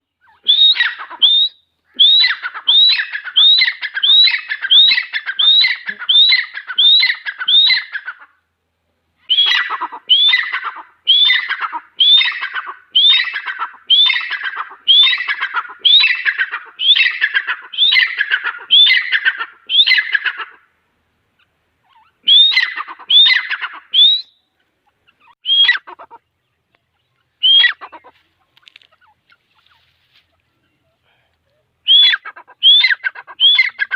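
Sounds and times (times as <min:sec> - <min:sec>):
bird calling sharp repeated notes: 0:00.0 - 0:08.4, 0:09.2 - 0:30.5, 0:31.8 - 0:33.9.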